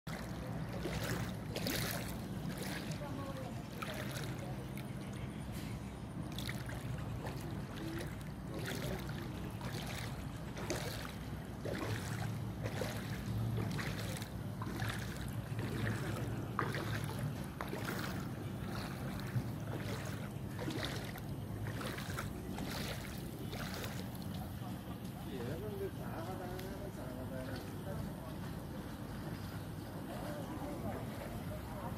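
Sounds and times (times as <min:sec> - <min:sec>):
legs wading through water: 0:00.0 - 0:31.9
steady low hum: 0:00.1 - 0:31.9.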